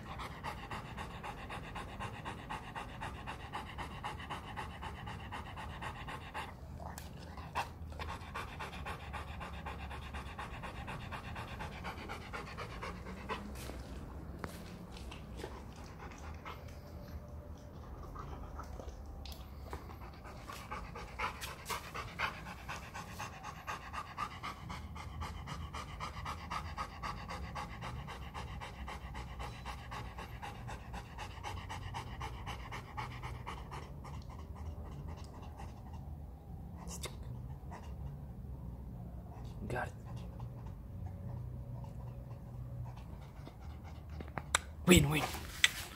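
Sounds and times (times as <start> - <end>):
dog panting: 0.0 - 45.9.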